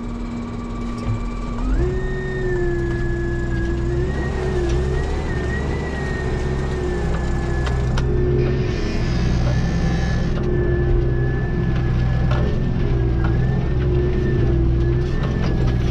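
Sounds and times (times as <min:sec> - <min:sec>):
tractor diesel engine under load: 0:00.0 - 0:15.9.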